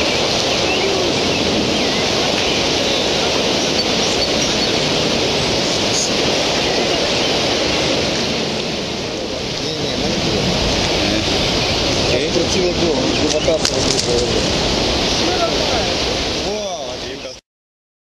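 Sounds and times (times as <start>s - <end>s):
river water rushing: 0.0s - 17.4s.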